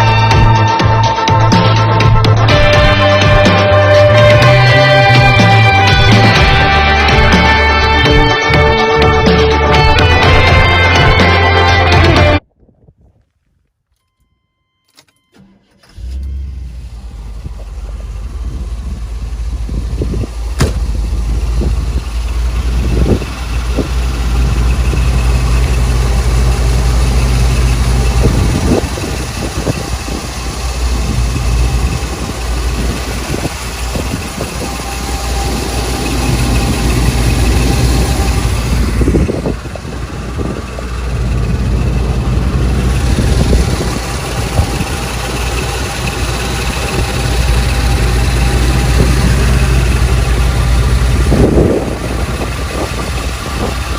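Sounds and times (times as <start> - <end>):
car engine idling: 0.0 - 12.4, 15.3 - 53.9.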